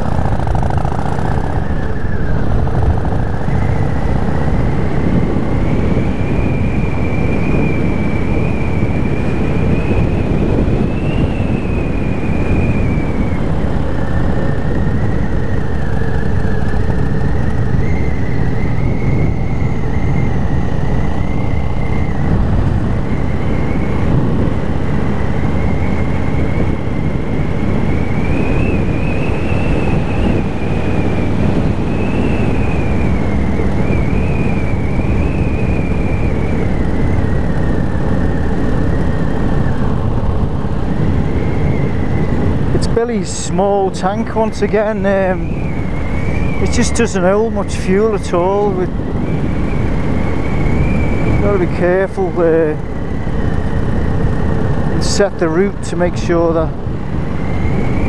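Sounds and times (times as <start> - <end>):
motorcycle engine running: 0.0 - 46.6
road noise: 0.0 - 58.0
wind rushing: 0.0 - 58.0.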